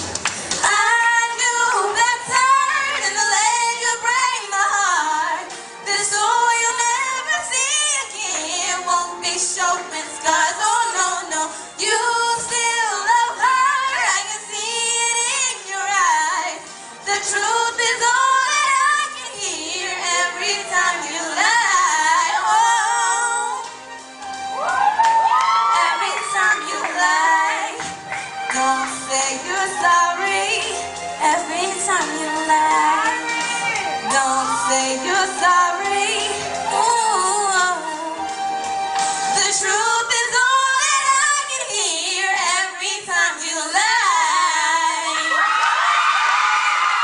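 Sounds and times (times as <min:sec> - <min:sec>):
instrumental backing track: 0:00.0 - 0:44.0
women singing pop duet: 0:00.6 - 0:23.8, 0:25.2 - 0:38.4, 0:39.0 - 0:47.0.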